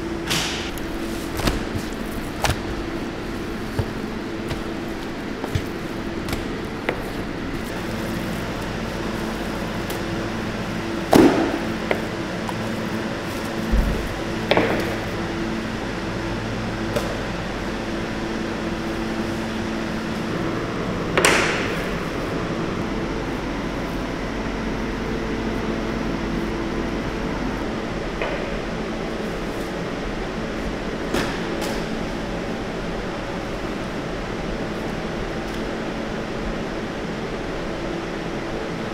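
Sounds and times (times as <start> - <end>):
machinery and ventilation hum: 0.0 - 38.9.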